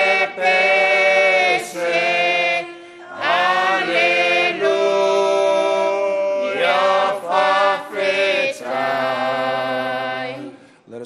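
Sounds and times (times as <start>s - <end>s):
group singing a hymn: 0.0s - 10.8s.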